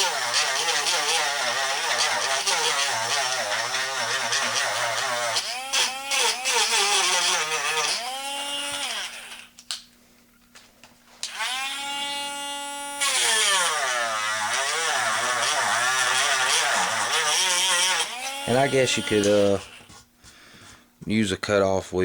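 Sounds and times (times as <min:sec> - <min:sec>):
rotary tool grinding wood: 0:00.0 - 0:09.5, 0:11.2 - 0:20.1.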